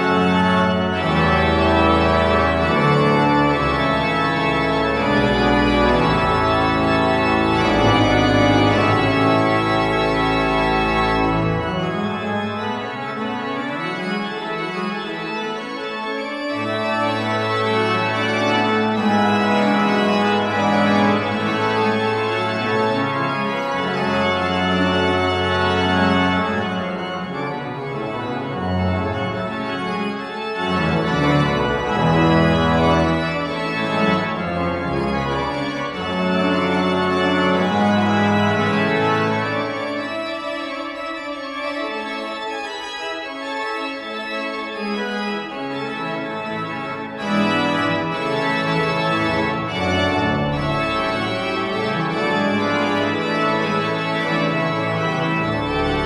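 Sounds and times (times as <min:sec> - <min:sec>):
pipe organ chords: 0:00.0 - 0:56.0.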